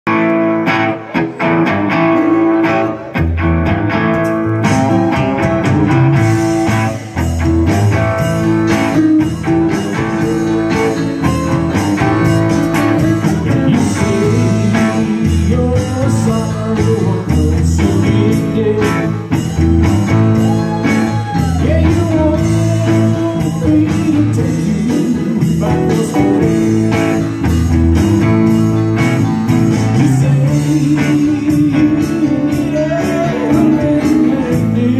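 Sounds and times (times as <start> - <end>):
electric bass: 0.0 - 34.9
electric guitar: 0.0 - 34.9
drum kit: 0.1 - 34.9.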